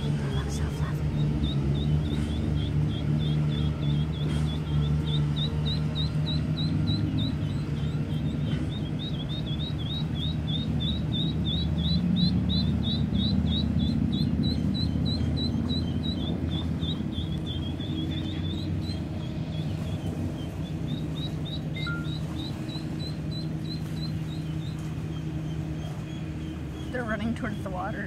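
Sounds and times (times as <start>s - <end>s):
ducklings peeping: 0.0s - 28.0s
low steady rumble: 0.0s - 28.0s.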